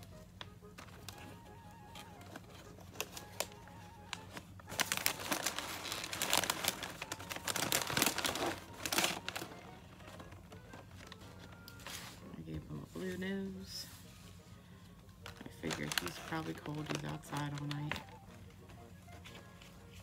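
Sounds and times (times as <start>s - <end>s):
quiet background music: 0.0s - 20.0s
plastic bag crinkling: 0.6s - 13.9s, 15.1s - 18.4s.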